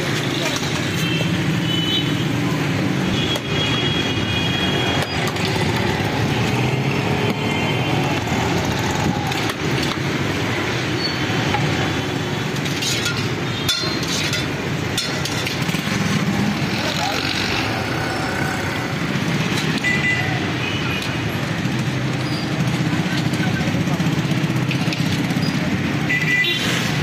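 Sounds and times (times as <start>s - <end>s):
motorcycles and cars passing: 0.0s - 27.0s.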